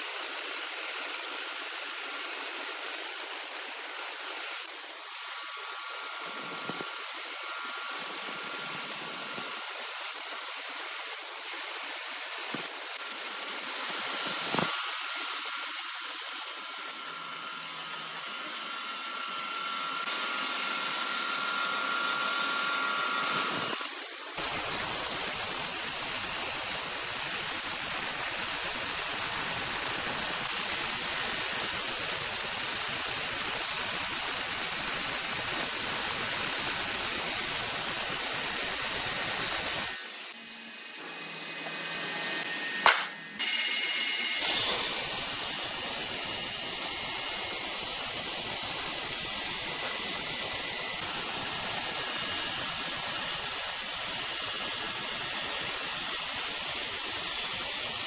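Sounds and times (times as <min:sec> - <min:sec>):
hissing machine noise: 0:00.8 - 0:57.8.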